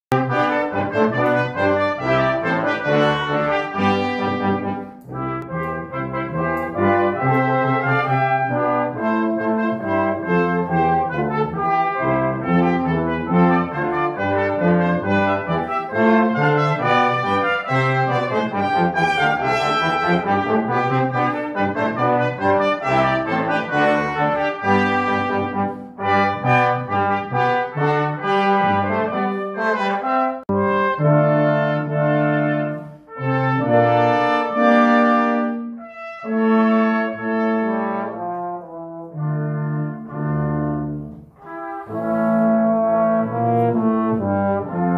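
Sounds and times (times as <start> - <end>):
brass quintet playing: 0.1 - 44.9.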